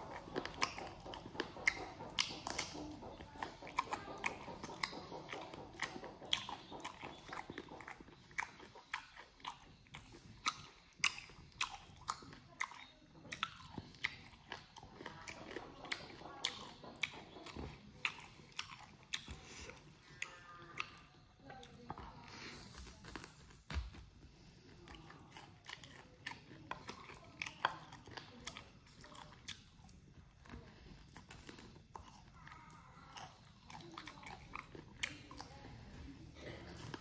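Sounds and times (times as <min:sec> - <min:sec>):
person chewing with crunching: 0:00.0 - 0:37.0.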